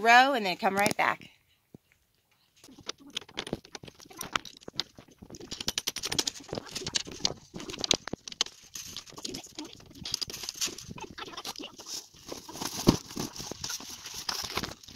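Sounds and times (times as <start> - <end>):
small metal parts clicking and rattling: 2.6 - 14.9.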